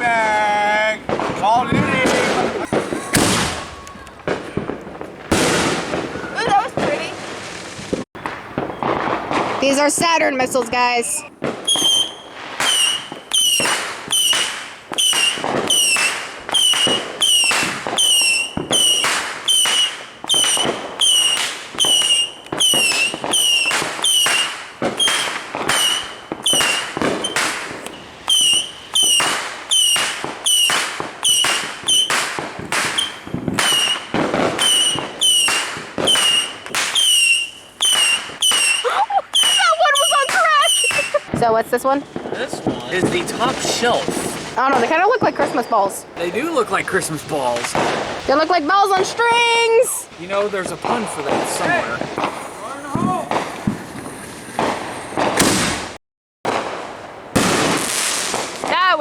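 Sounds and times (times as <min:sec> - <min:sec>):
whistling rockets firing: 0:01.1 - 0:59.0.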